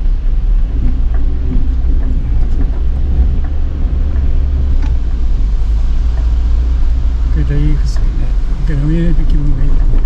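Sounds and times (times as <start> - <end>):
vehicle driving on sand: 0.0 - 10.0.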